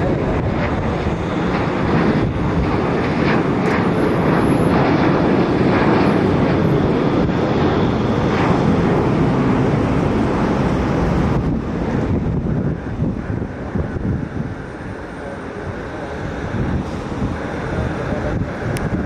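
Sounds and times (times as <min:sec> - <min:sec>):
jet engines roaring: 0:00.0 - 0:19.0
wind on microphone: 0:00.0 - 0:19.0.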